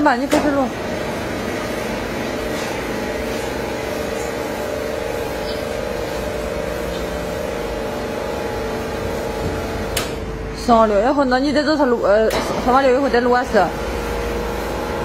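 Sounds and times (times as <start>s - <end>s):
fryer motors humming: 0.0s - 15.0s.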